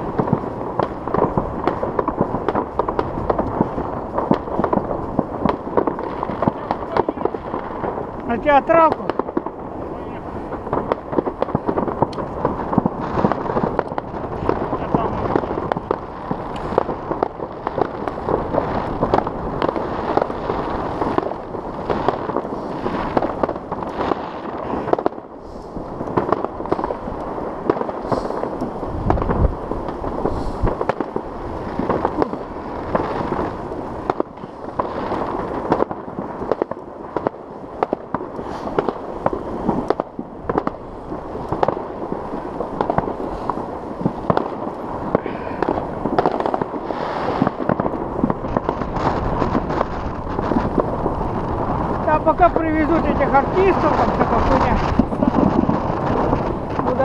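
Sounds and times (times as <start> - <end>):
fireworks bangs and pops: 0.0 - 57.0.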